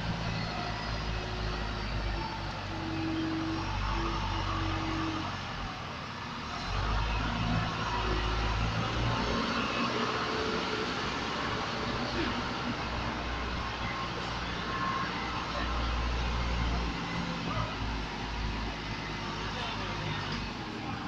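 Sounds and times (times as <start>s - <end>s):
work site noise: 0.0s - 21.0s.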